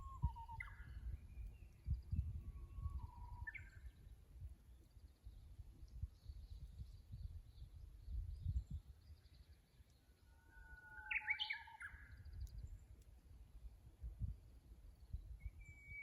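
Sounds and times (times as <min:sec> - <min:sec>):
warbler whistling song: 0:00.0 - 0:12.9, 0:14.2 - 0:16.0
small birds chirping: 0:00.0 - 0:13.3.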